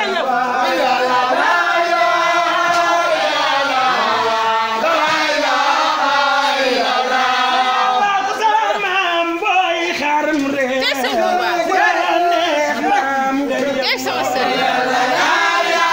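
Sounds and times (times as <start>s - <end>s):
voices chanting together: 0.0s - 15.9s.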